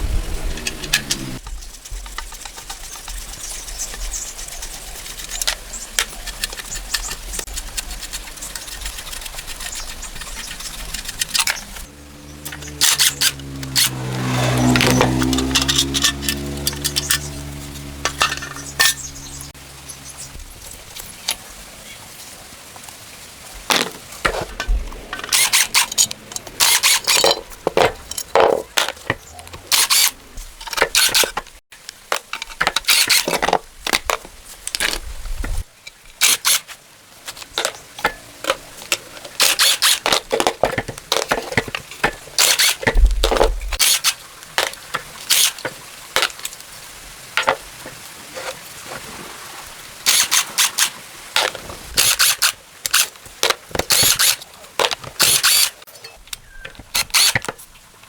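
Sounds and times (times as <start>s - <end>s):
hand tools scraping metal: 0.1s - 20.3s, 23.7s - 31.6s, 32.2s - 34.0s, 35.6s - 46.4s, 50.1s - 57.7s.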